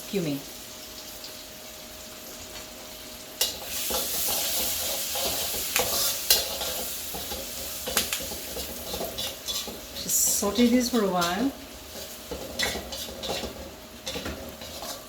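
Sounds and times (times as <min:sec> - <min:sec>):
food sizzling in butter: 0:00.0 - 0:15.0.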